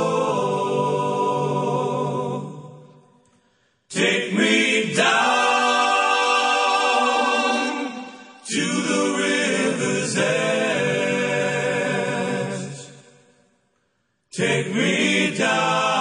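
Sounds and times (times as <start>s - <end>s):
wordless choral singing: 0.0s - 3.2s, 3.9s - 13.5s, 14.3s - 16.0s.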